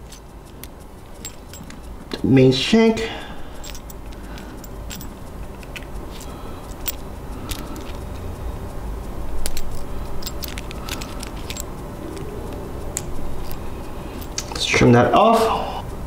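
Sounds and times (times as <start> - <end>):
pliers and wire clicking: 0.0 - 2.3, 3.4 - 14.8.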